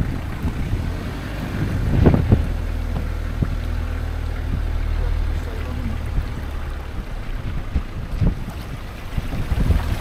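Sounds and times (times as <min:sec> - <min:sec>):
vehicle engine and road rumble: 0:00.0 - 0:10.0
water washing around wheels: 0:00.0 - 0:10.0.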